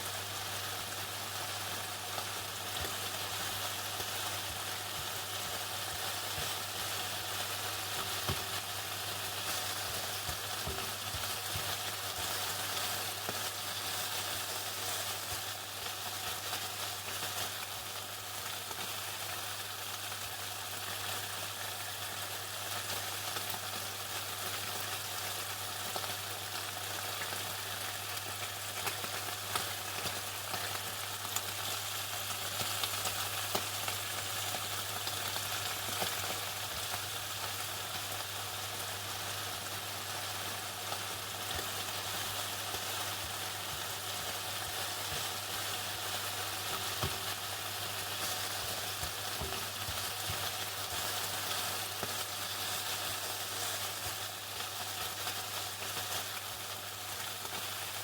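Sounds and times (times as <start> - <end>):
chicken sizzling in oil: 0.0 - 58.0.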